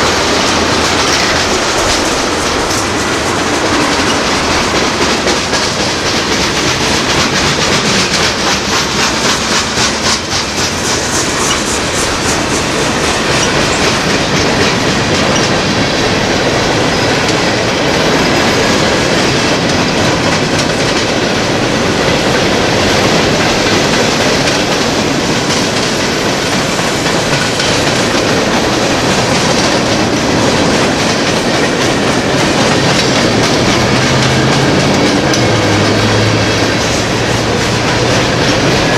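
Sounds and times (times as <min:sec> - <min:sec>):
freight train rumbling past: 0:00.0 - 0:38.9
wheels clacking over rail joints: 0:00.0 - 0:38.9.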